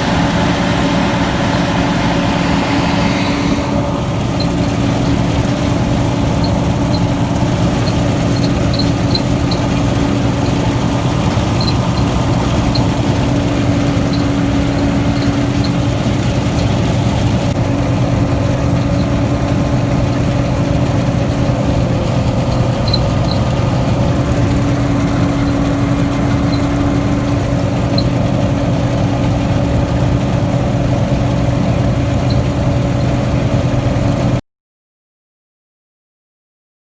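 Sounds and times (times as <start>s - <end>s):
farm machine engine humming: 0.0s - 34.4s.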